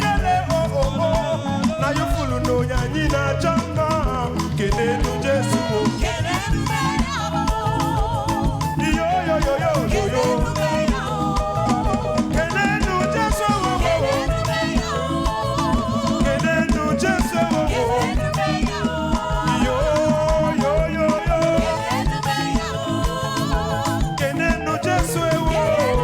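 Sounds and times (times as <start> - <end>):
upbeat live praise band music: 0.0 - 26.0.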